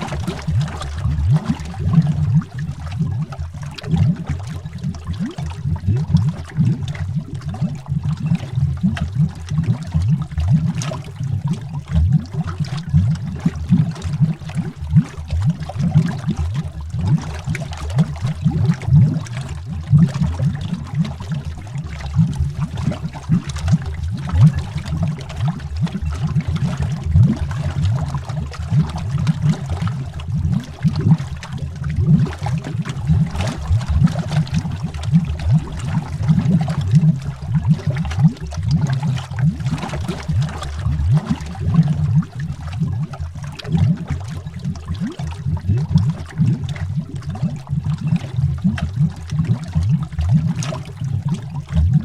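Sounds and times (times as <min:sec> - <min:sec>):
underwater bubbling gurgle: 0:00.0 - 0:52.0.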